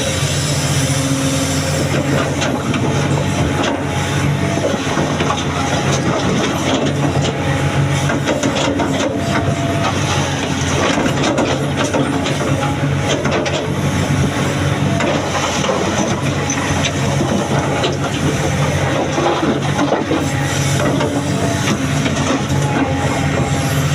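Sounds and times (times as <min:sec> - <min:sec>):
excavator diesel engine: 0:00.0 - 0:23.9.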